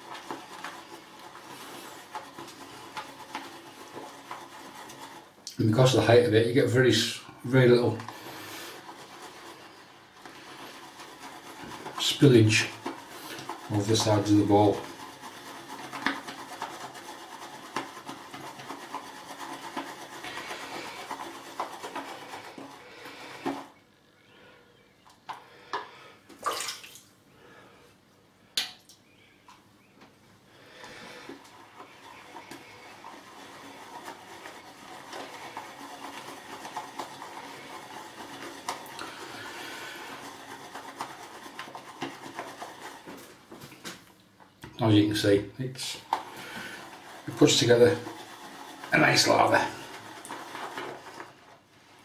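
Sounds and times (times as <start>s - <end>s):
brush swishing lather in bowl: 0.0s - 23.8s, 30.7s - 52.0s.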